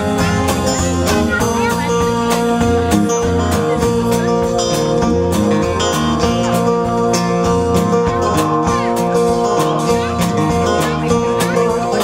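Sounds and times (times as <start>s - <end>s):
song with guitar bass and beat: 0.0s - 12.0s.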